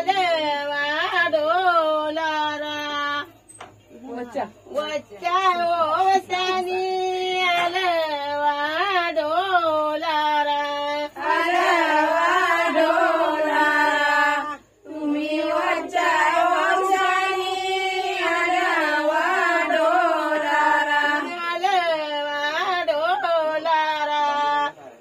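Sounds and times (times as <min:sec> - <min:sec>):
women singing together: 0:00.0 - 0:03.4, 0:04.0 - 0:24.8.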